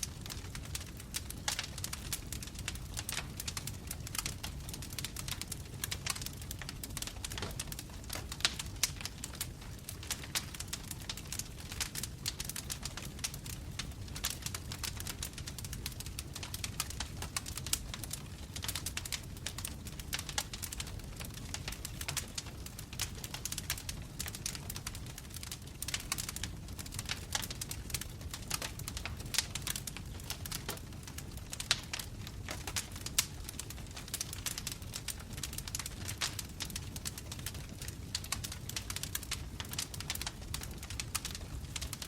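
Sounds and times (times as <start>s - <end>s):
logs crackling in fireplace: 0.0s - 42.0s
low rumble of flames: 0.0s - 42.0s.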